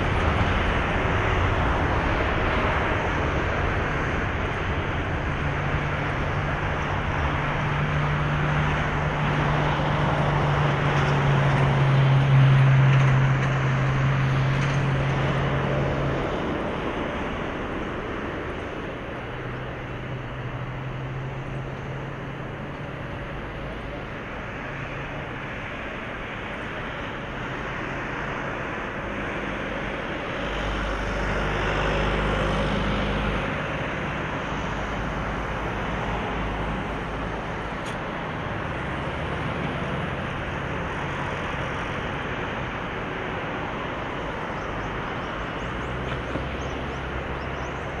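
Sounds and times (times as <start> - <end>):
jet engines at take-off thrust: 0.0 - 48.0.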